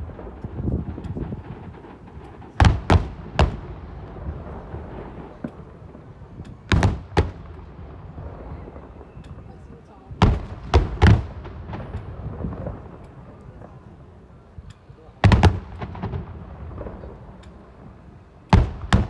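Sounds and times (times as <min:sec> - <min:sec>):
fireworks bangs: 0:00.0 - 0:14.4, 0:15.0 - 0:19.0
low rumble of distant bursts: 0:00.0 - 0:19.0.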